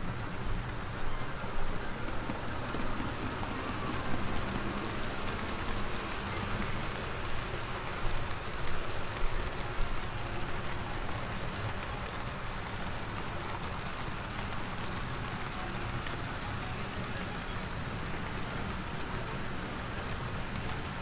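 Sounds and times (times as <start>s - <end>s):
model train wheels rattling on rails: 0.0s - 21.0s.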